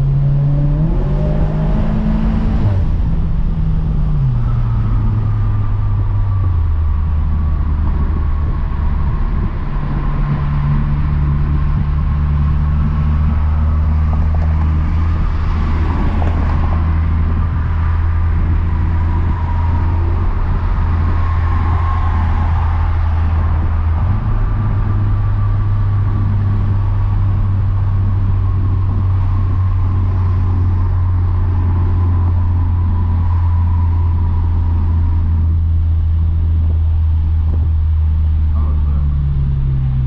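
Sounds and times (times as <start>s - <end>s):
car engine droning: 0.0s - 40.0s
road noise: 0.0s - 40.0s.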